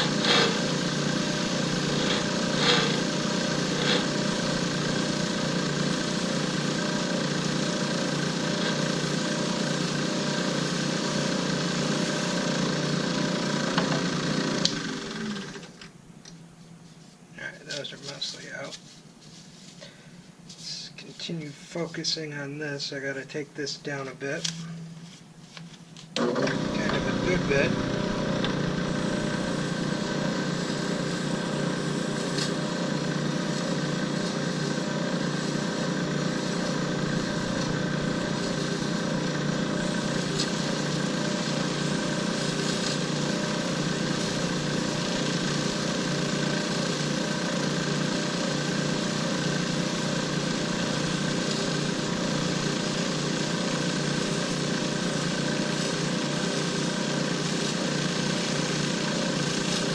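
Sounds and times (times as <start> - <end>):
lathe turning metal: 0.0 - 15.6, 26.2 - 59.9.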